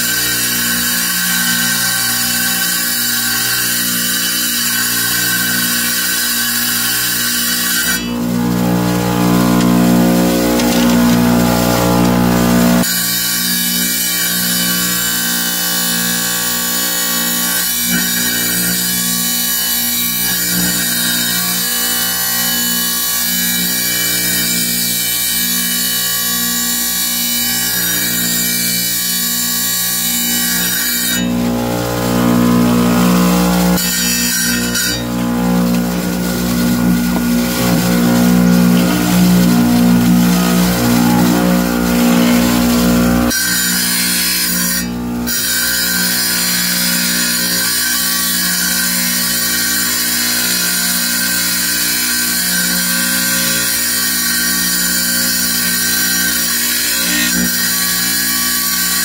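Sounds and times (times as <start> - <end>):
blade grinding stone: 0.0 - 59.0
tile saw motor hum: 0.0 - 59.0.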